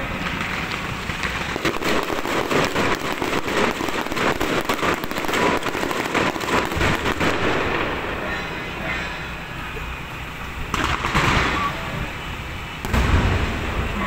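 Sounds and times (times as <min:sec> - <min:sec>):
fireworks cracking and popping: 0:00.0 - 0:14.0.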